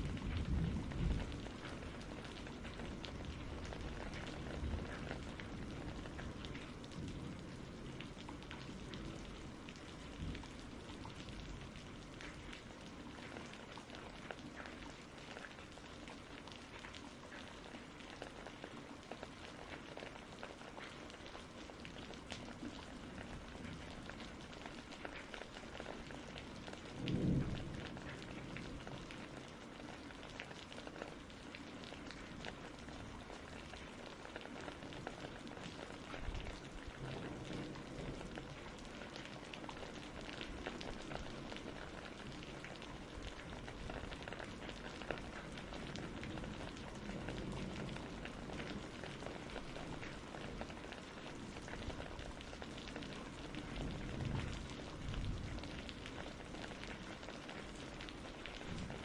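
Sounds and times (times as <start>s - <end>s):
low rumble of thunder: 0.0s - 16.8s, 19.6s - 30.2s, 30.8s - 59.0s
steady rain pattering: 0.0s - 59.0s.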